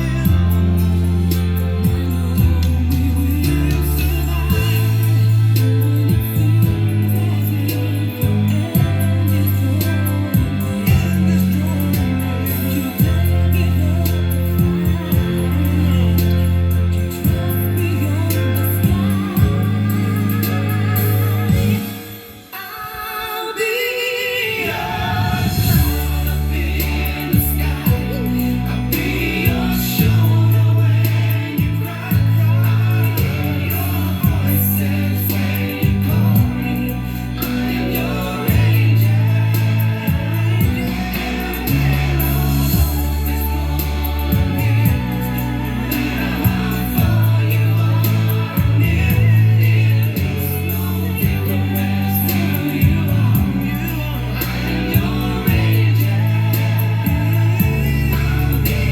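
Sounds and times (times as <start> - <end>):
heavy bass line: 0.0 - 22.4, 24.6 - 58.9
person singing: 0.0 - 58.9.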